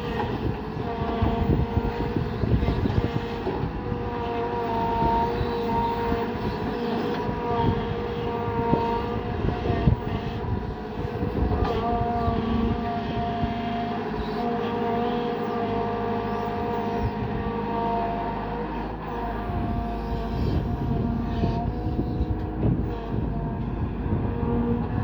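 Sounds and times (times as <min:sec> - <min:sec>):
diesel engine running: 0:00.0 - 0:25.0
hydraulic whine: 0:00.0 - 0:25.0.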